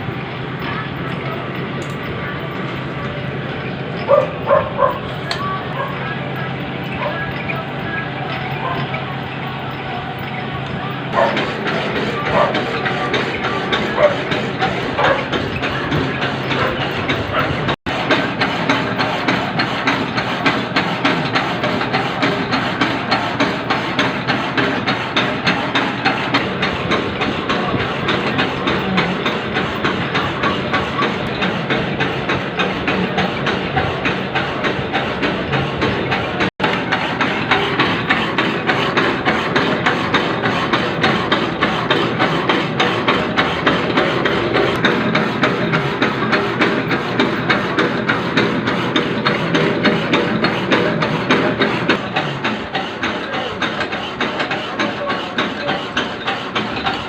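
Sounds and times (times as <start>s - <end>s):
machine tool clattering: 0.0s - 57.0s.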